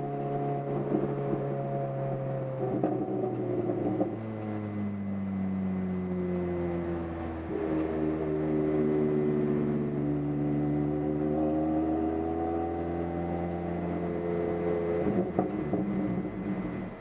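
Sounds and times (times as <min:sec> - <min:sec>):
car engine under full throttle: 0:00.0 - 0:17.0.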